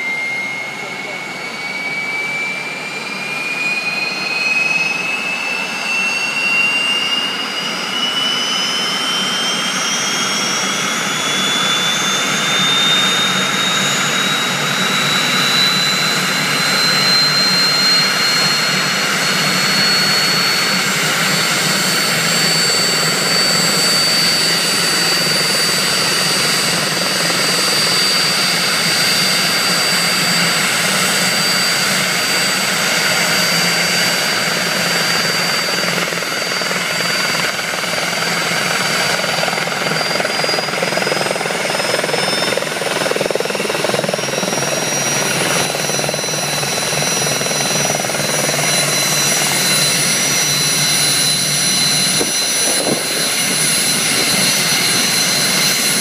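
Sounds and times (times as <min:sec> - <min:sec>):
engine and rotor rush: 0:00.0 - 0:56.0
helicopter turbine whine rising: 0:00.0 - 0:56.0.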